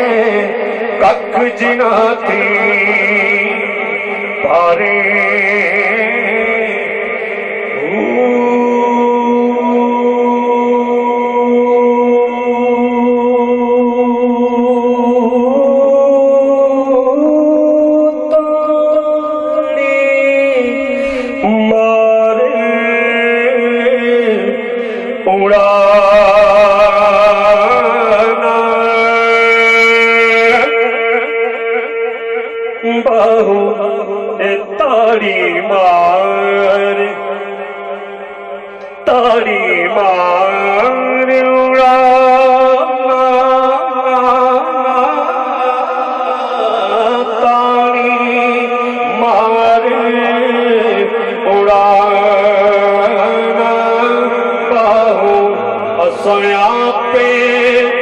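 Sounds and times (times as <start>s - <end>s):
man singing through pa system: 0.0s - 58.0s.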